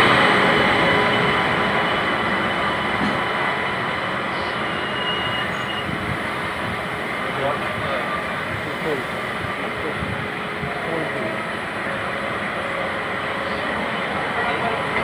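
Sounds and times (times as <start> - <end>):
trains rumbling on rails: 0.0 - 15.0.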